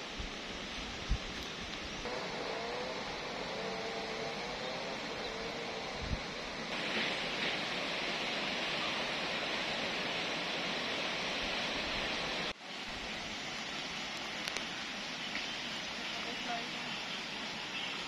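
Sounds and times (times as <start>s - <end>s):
steady hiss: 0.0s - 18.0s
river water rushing over weir: 2.1s - 18.0s.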